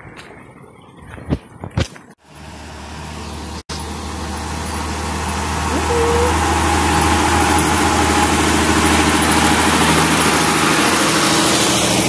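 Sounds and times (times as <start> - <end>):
tractor engine passing: 2.2 - 12.0.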